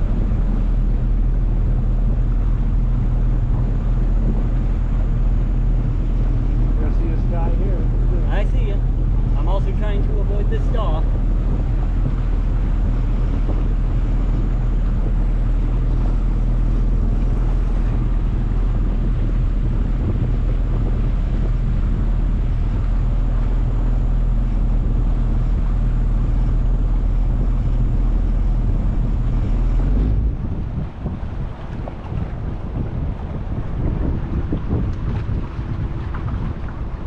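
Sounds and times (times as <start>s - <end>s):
motorboat engine droning: 0.0s - 37.0s
wind buffeting microphone: 0.0s - 37.0s.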